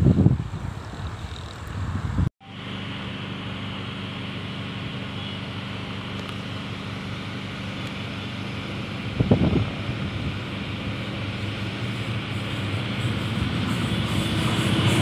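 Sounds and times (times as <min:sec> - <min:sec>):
distant diesel locomotive drone: 0:00.0 - 0:15.0.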